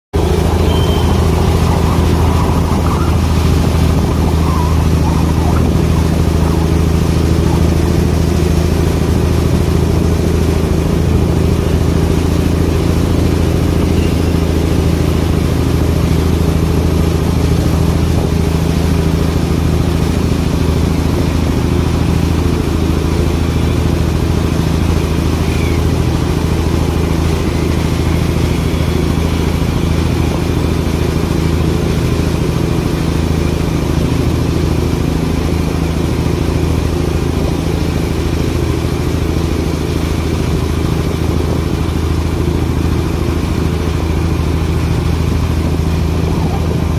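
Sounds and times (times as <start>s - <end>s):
engine droning: 0.1s - 46.9s.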